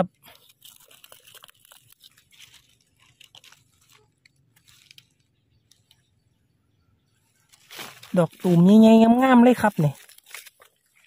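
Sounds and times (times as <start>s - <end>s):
dry leaves crackling: 0.0s - 6.2s, 7.3s - 11.0s
mushroom crunching and scraping: 0.0s - 6.4s, 7.2s - 11.0s.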